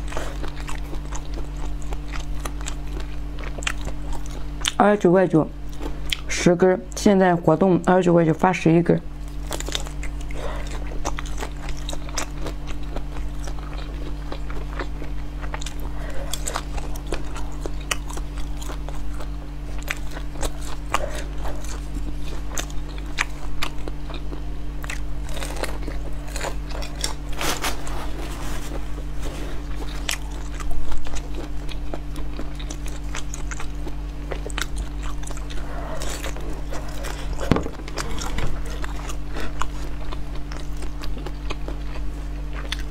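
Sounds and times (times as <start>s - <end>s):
biting and chewing: 0.0s - 4.8s, 9.2s - 42.9s
steady low hum: 0.0s - 42.9s.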